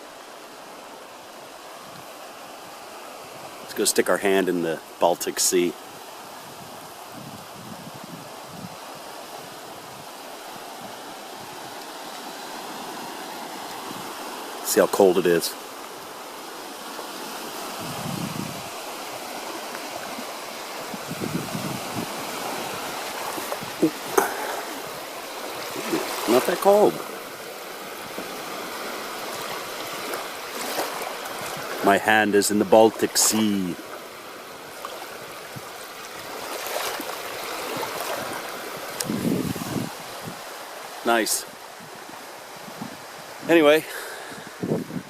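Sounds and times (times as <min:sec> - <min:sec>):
waves washing onto beach: 0:00.0 - 0:45.0.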